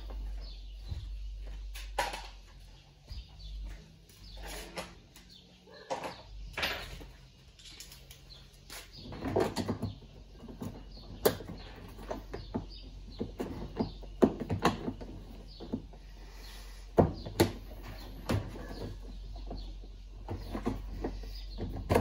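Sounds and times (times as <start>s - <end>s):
knocks and scrapes of parts and tools: 0.0s - 16.1s, 16.8s - 22.0s.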